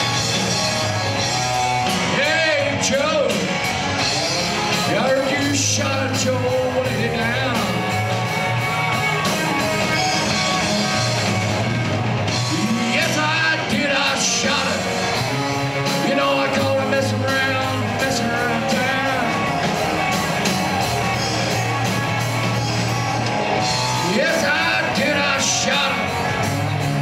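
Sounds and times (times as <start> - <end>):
bass guitar: 0.0 - 27.0
drum kit: 0.0 - 27.0
electric guitar: 0.0 - 27.0.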